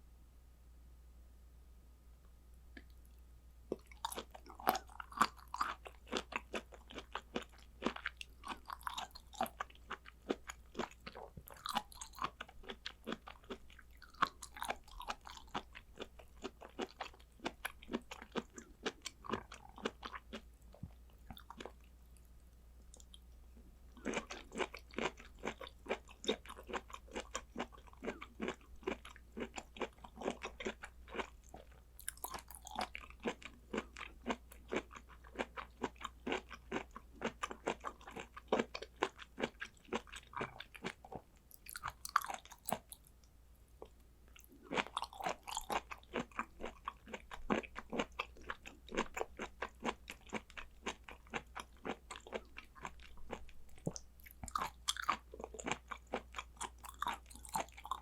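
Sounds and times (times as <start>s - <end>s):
wet crunchy chewing: 3.7s - 21.8s, 24.0s - 43.0s, 44.4s - 58.0s.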